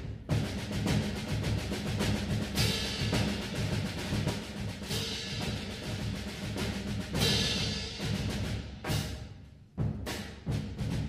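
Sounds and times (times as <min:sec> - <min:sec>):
drums playing processional beat: 0:00.0 - 0:11.0.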